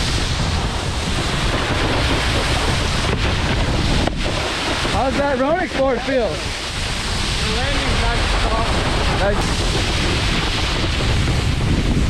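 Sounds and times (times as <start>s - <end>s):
hiss of water spray: 0.0s - 12.0s
wind buffeting microphone: 0.0s - 12.0s.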